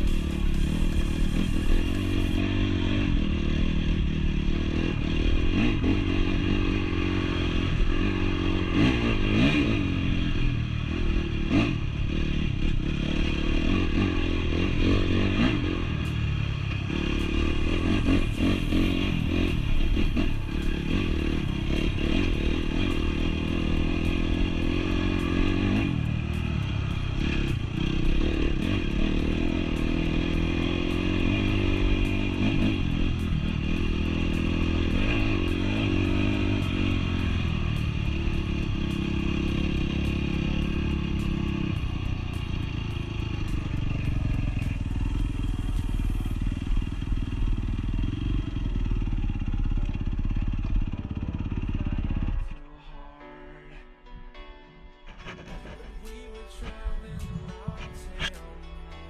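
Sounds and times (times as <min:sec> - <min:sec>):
motorcycle engine revving: 0:00.0 - 0:53.8, 0:55.1 - 0:58.4.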